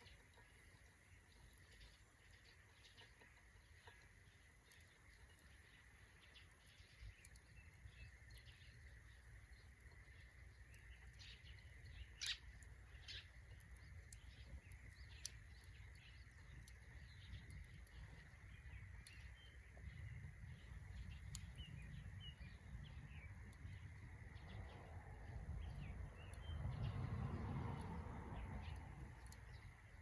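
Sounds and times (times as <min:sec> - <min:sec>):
faint hum: 0:00.0 - 0:30.0
wood fire crackling: 0:00.0 - 0:30.0.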